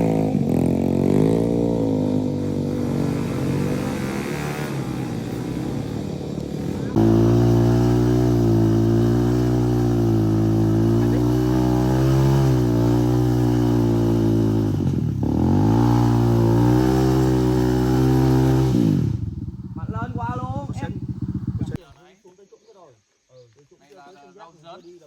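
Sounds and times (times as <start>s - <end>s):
motorcycle engine running: 0.0s - 21.8s.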